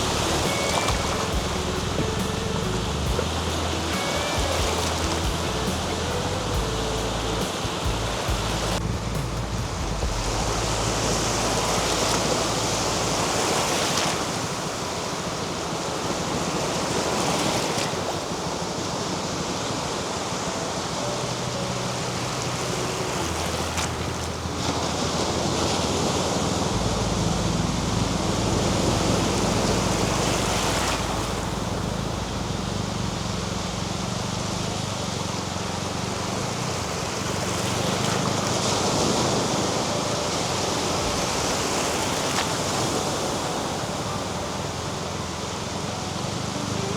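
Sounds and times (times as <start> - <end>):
sea waves washing onto beach: 0.0 - 46.9.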